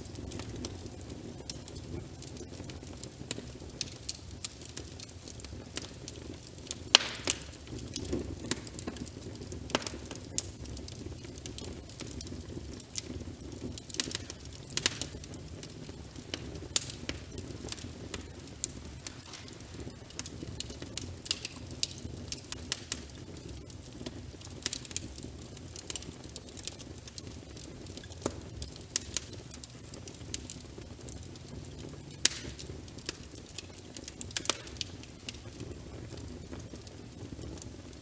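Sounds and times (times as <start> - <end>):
crackling wood fire: 0.0 - 38.0
rain pattering on a window: 0.0 - 38.0.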